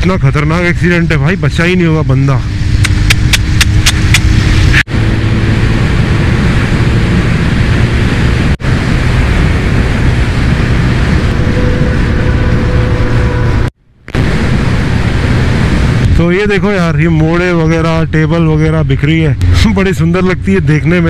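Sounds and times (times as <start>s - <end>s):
motorcycle engine drone: 0.0s - 21.0s
wind rush on microphone: 0.0s - 21.0s.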